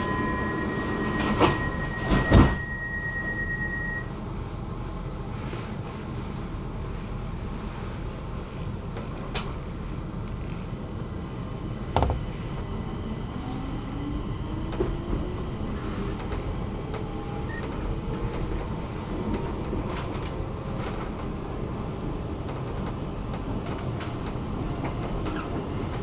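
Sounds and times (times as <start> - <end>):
train rumble inside carriage: 0.0 - 26.0.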